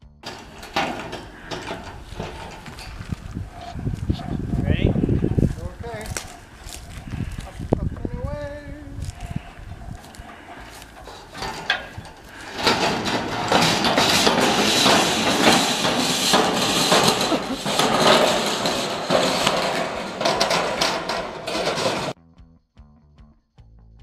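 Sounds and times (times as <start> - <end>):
metal roofing sheets knocking: 0.2 - 6.6, 9.2 - 22.2.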